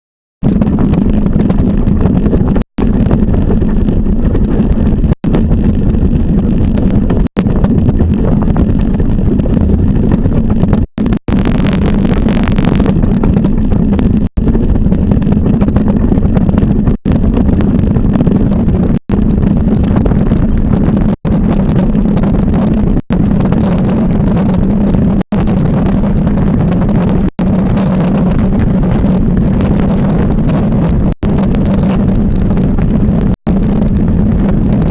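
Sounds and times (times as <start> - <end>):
loud rush of wind: 0.4 - 34.9
low rumble: 0.4 - 34.9.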